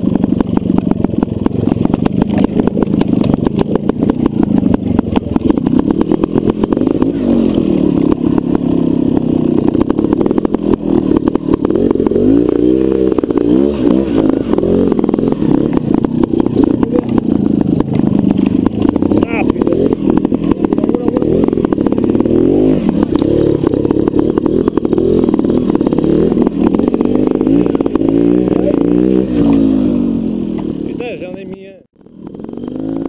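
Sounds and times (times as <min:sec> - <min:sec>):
motorcycle engine at low revs: 0:00.0 - 0:33.0
motorcycle throttle blips: 0:00.0 - 0:33.0.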